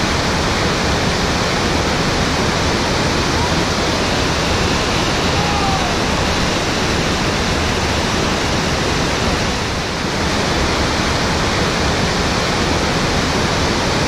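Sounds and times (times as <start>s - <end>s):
water rushing over rapids: 0.0s - 14.0s.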